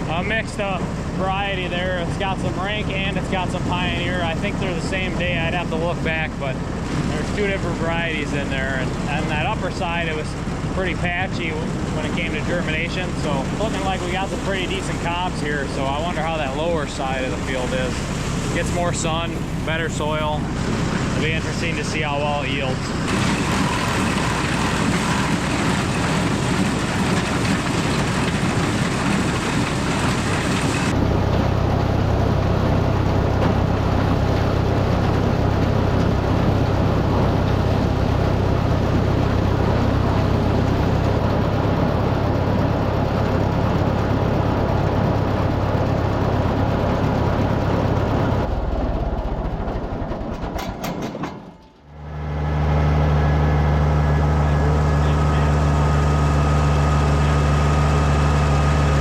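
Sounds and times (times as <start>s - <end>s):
harvest machinery running: 0.0s - 59.0s
tractor engine running: 0.0s - 59.0s.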